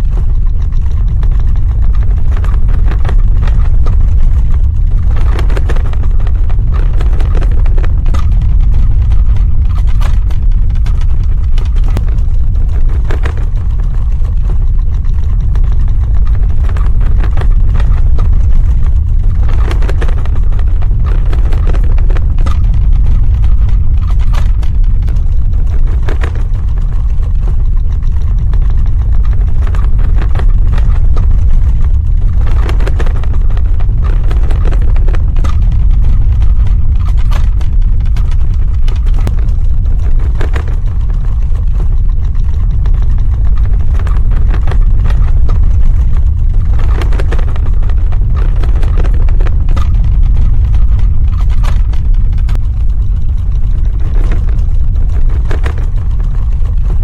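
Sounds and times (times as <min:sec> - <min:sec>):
cracks and rattles: 0:00.0 - 0:57.0
deep rumble: 0:00.0 - 0:57.0.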